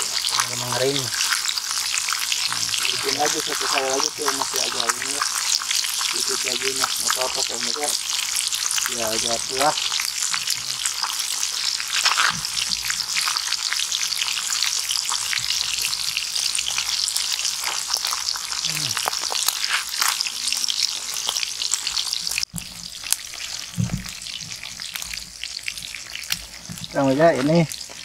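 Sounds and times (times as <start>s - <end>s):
fish frying in hot oil: 0.0s - 28.0s
oil crackles and pops: 0.0s - 28.0s.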